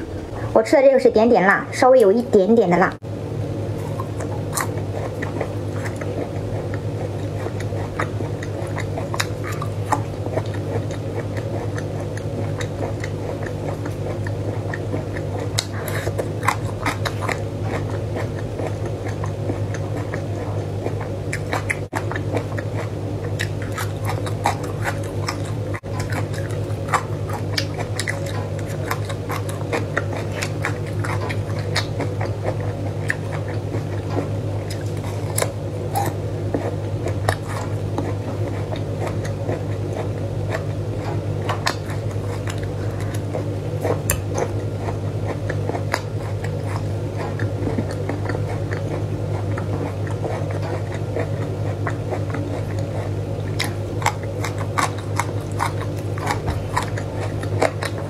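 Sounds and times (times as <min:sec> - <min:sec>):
steady low hum: 0:00.0 - 0:58.0
person chewing crunchy food: 0:03.4 - 0:58.0.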